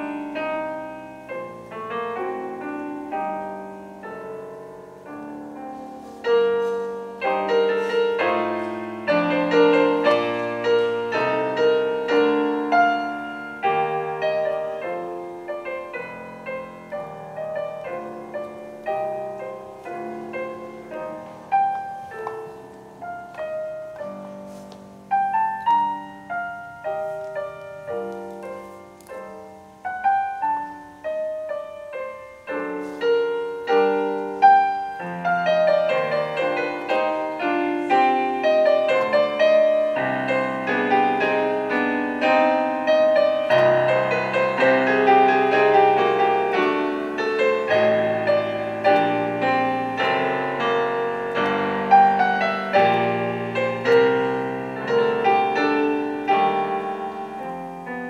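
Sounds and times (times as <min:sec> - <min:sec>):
solo classical piano: 0:00.0 - 0:58.0.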